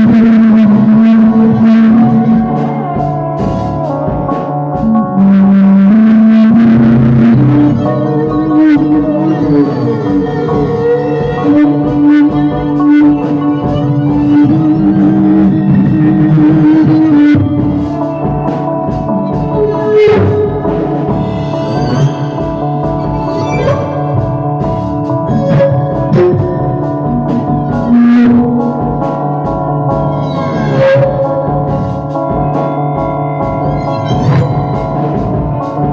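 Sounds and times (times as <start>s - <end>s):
music with guitar and drums: 0.0s - 35.9s.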